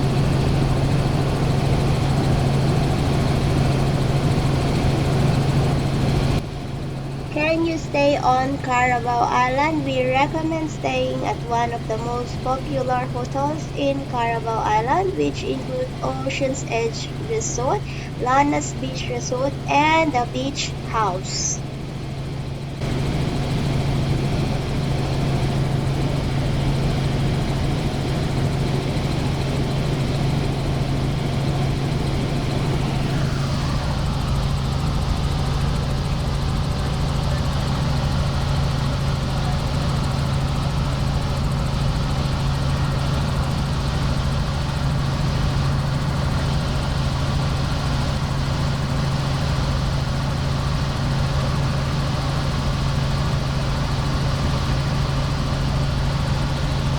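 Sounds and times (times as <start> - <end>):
helicopter rotor drone: 0.0 - 56.9.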